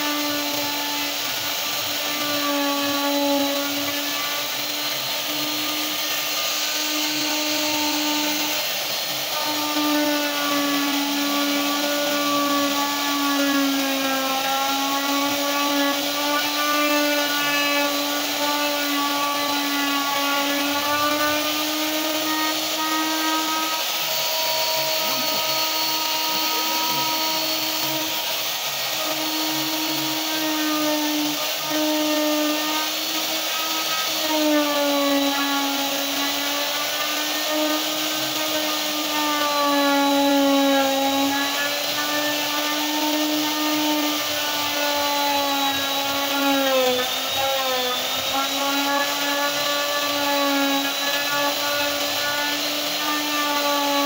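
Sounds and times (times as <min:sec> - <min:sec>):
router whining cutting wood: 0:00.0 - 0:54.0.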